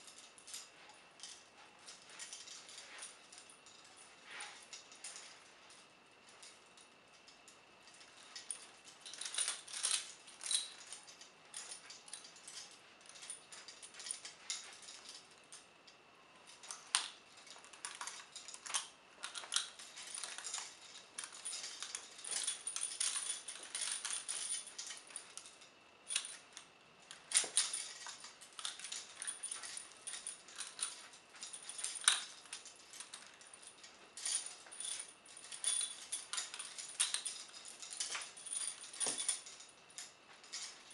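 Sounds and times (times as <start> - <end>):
handcuff chain clinking and jangling: 0.0 - 40.9.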